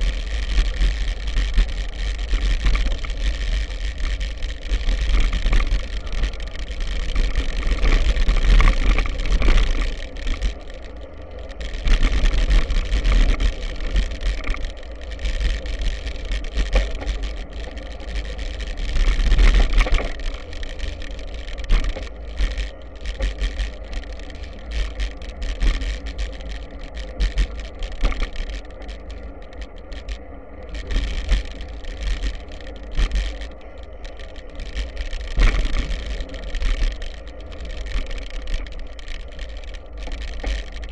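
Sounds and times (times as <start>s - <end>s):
bike clicks and rattles: 0.0s - 40.9s.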